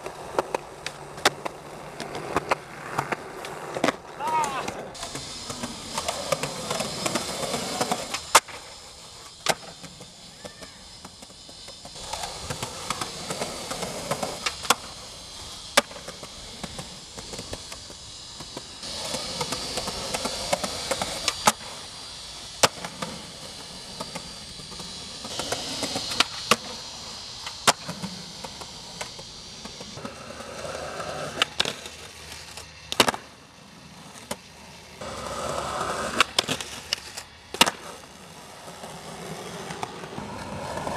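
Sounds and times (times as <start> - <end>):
skateboard clacks on pavement: 0.0 - 21.8, 27.4 - 40.9
skateboard wheels rolling on concrete: 0.0 - 40.9.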